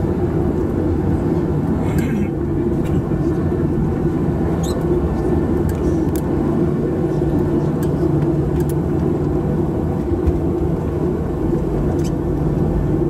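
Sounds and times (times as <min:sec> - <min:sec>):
airplane cabin engine hum: 0:00.0 - 0:13.0.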